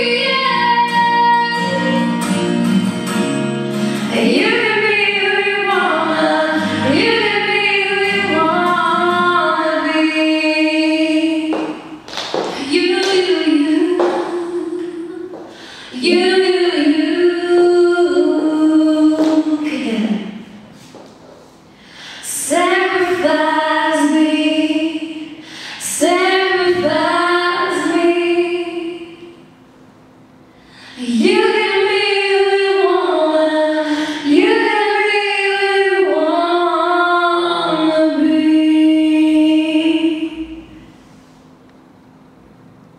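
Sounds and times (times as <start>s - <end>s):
women singing a duet: 0.0s - 2.1s, 4.1s - 20.9s, 22.2s - 29.4s, 30.9s - 40.8s.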